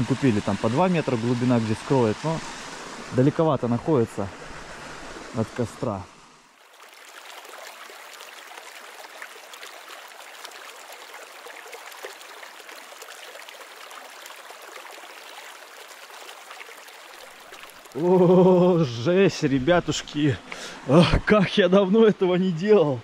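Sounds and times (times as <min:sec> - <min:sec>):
river water babbling: 0:00.0 - 0:22.9.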